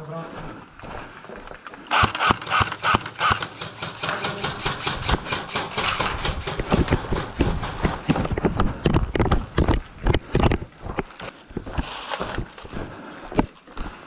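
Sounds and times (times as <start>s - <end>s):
quick footsteps on rough ground: 0.0s - 3.4s, 5.0s - 14.0s.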